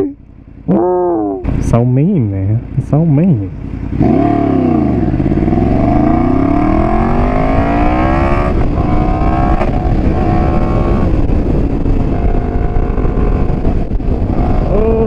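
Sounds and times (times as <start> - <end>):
motorcycle engine accelerating: 0.0 - 15.0
wind noise: 2.6 - 15.0.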